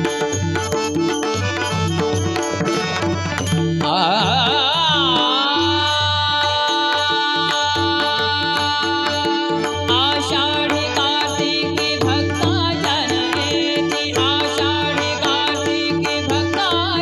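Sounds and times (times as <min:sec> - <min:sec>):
fast hand drum rhythm: 0:00.0 - 0:17.0.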